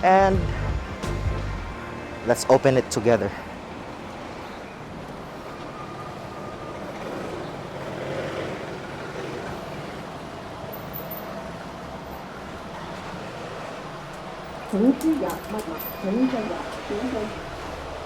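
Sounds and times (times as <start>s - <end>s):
background traffic rumble: 0.0s - 18.0s.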